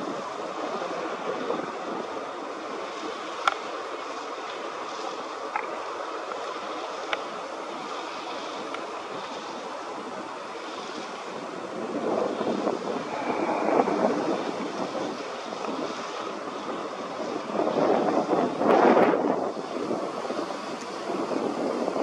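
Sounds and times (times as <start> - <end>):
wind blowing over microphone: 0.0 - 22.0.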